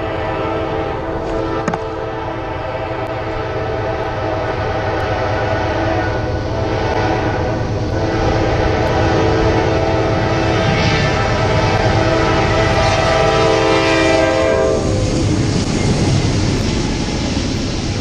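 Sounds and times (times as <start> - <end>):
locomotive air horn chord: 0.0 - 15.0
train rumbling: 0.0 - 18.0.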